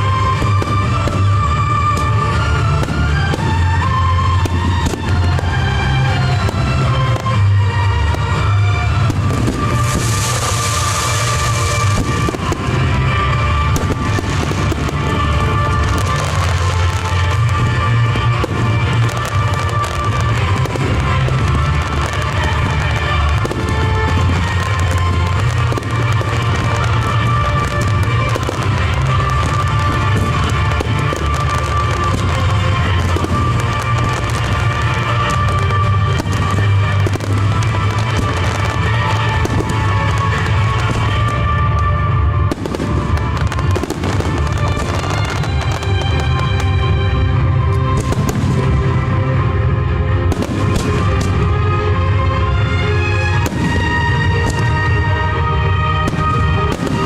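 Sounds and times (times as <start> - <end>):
fireworks crackling and popping: 0.0 - 57.0
music: 0.0 - 57.0.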